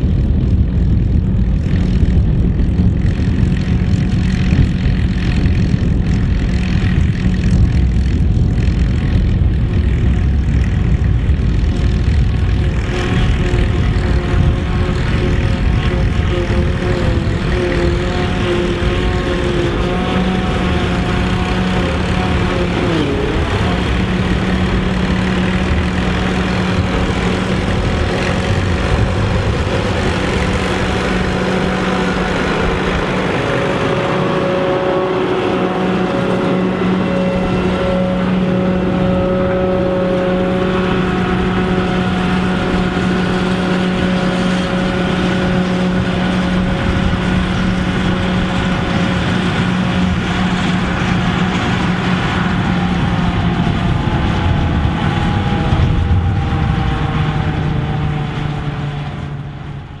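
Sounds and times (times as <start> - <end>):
tractor and harvester drone: 0.0 - 60.0.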